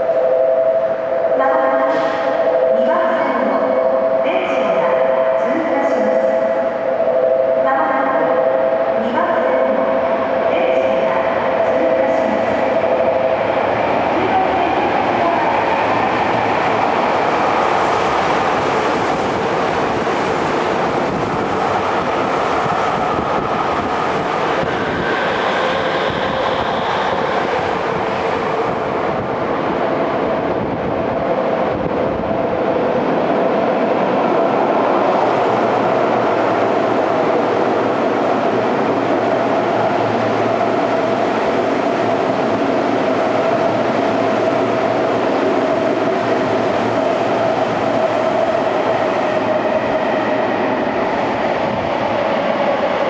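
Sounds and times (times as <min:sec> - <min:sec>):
electric train running through station: 0:00.0 - 0:53.0.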